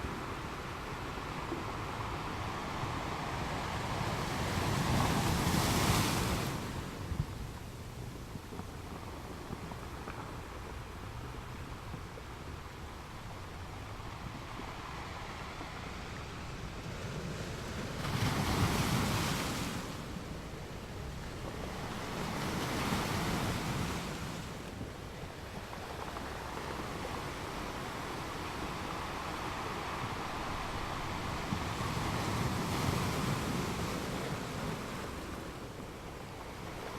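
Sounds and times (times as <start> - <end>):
sea waves washing on shore: 0.0 - 36.9
wind on microphone: 0.0 - 36.9.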